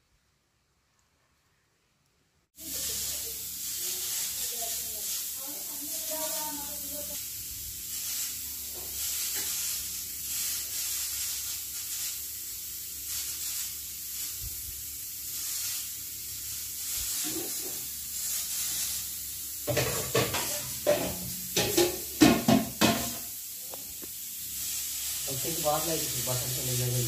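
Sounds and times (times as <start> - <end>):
oil sizzling on a hot pan: 2.5 - 27.0.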